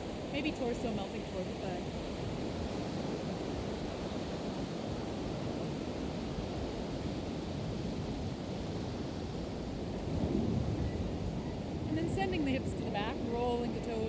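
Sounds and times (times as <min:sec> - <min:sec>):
ocean surf washing: 0:00.0 - 0:14.0
wind rumble on microphone: 0:00.0 - 0:14.0.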